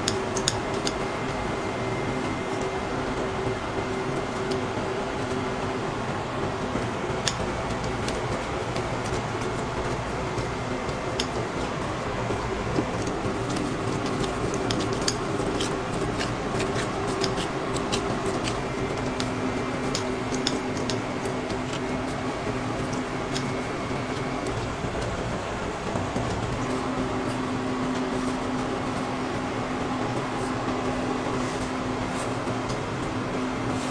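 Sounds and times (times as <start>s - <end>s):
fan whir with low hum: 0.0s - 33.9s.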